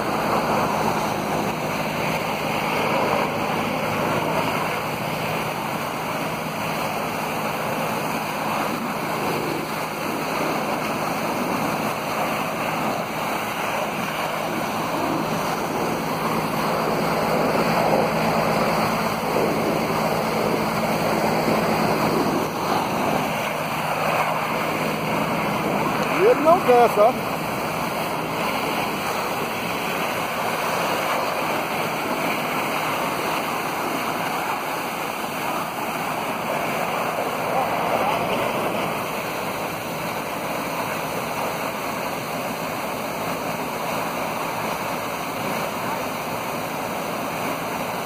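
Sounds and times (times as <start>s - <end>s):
engine hum: 0.0s - 48.0s
water jet blasting and splashing: 0.0s - 48.0s.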